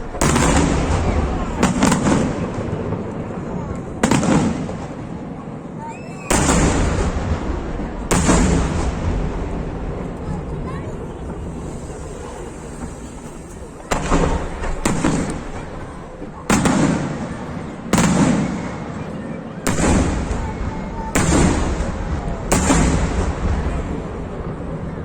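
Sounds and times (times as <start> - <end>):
firework shells booming: 0.0 - 5.4, 6.2 - 10.6, 11.2 - 25.0.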